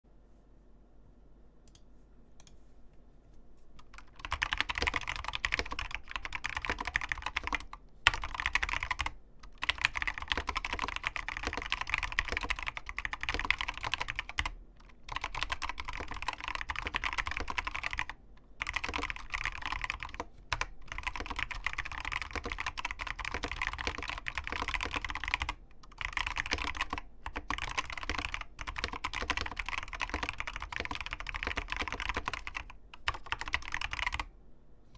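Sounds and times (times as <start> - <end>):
typing on mechanical keyboard: 3.8 - 34.3.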